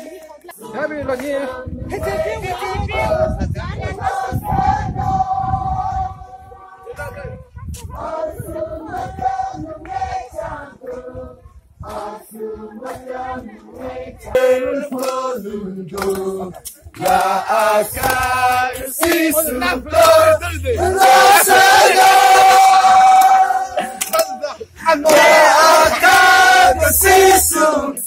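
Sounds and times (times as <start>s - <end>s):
crowd chanting: 0.0s - 7.3s, 7.9s - 28.0s.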